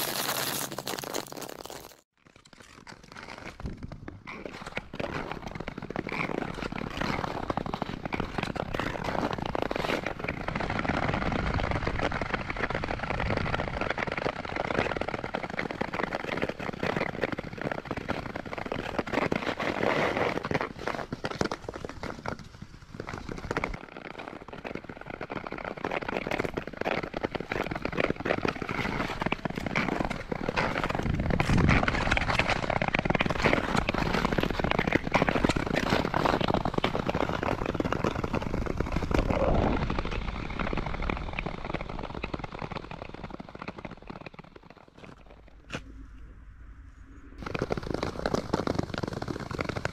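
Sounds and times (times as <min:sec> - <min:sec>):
ice skates gliding on ice: 0:00.0 - 0:45.9, 0:47.4 - 0:49.9.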